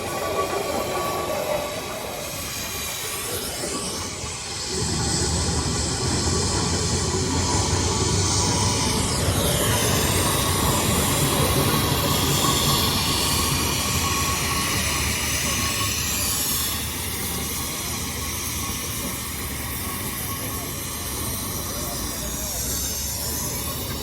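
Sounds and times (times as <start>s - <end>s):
steam engine running: 0.0s - 24.0s.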